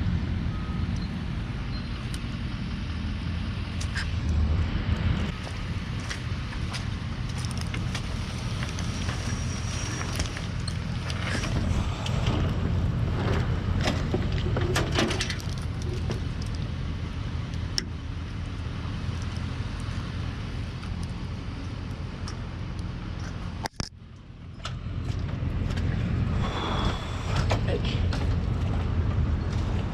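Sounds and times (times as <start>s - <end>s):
engine and road rumble: 0.0s - 29.9s.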